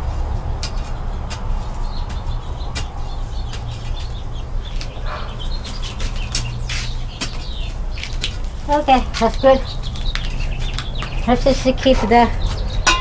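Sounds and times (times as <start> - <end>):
birds chirping faintly: 0.0 - 13.0
steady low rumble: 0.0 - 13.0.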